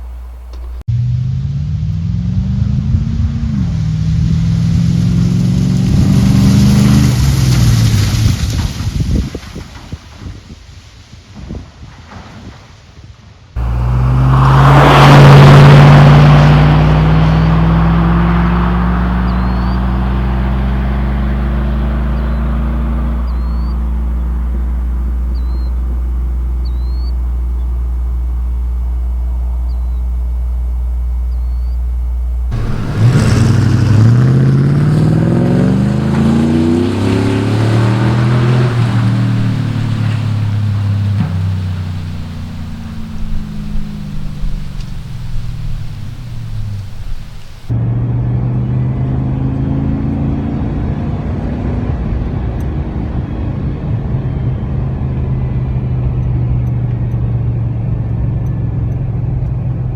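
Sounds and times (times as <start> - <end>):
car engine exhaust roaring: 0.0 - 10.0, 13.6 - 59.9.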